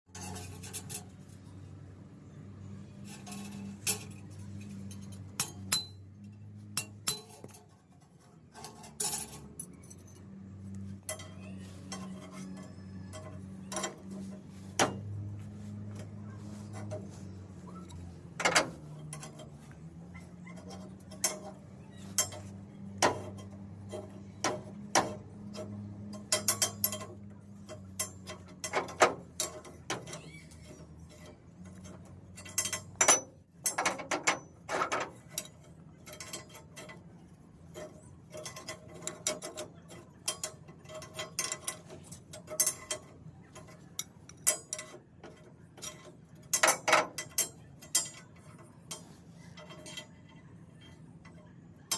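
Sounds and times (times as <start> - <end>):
metal tools clicking and knocking: 0.1 - 1.5, 2.9 - 51.9.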